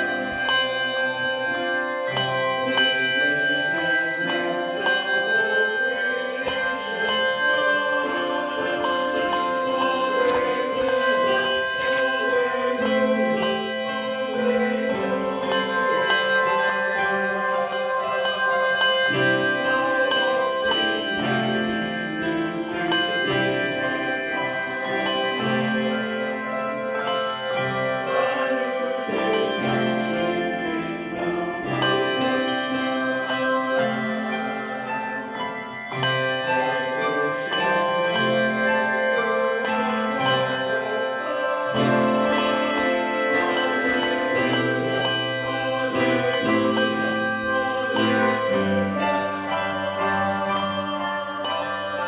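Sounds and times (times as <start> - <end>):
handbell choir playing: 0.0 - 52.0.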